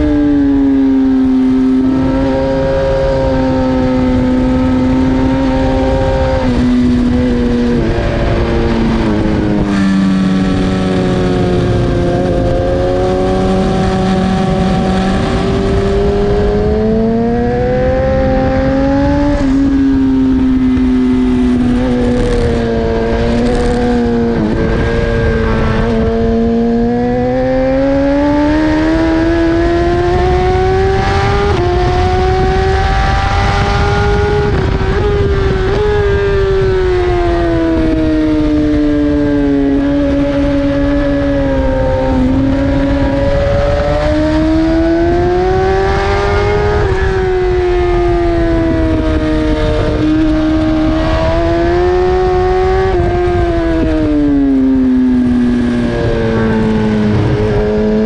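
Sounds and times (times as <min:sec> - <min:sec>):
motorcycle racing engine revving: 0:00.0 - 0:58.0
wind rush over microphone: 0:00.0 - 0:58.0.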